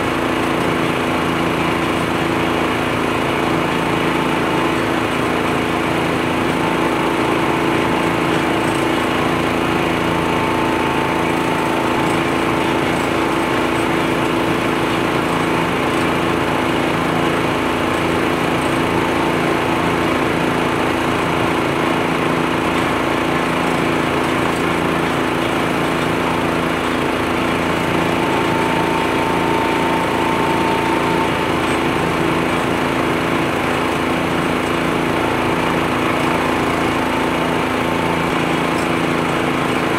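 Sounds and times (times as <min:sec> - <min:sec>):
leaf blower engine drone: 0:00.0 - 0:39.9.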